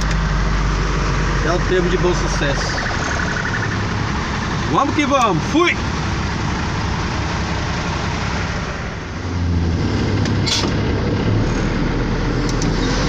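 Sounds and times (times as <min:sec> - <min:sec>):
road noise on wet highway: 0:00.0 - 0:13.0
truck engine hum: 0:00.0 - 0:13.0.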